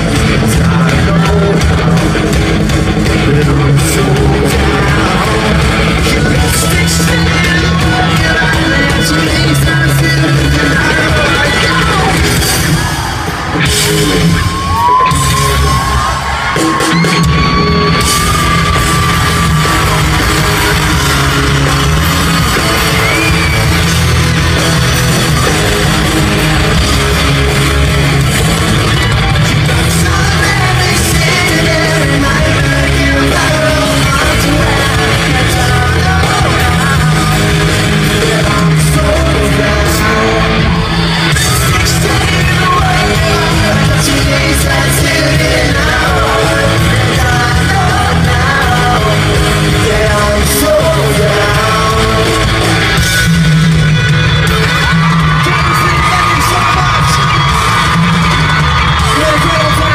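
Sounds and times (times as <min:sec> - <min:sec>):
crowd yelling and singing along: 0:00.0 - 0:59.9
rock band playing live: 0:00.0 - 0:59.9.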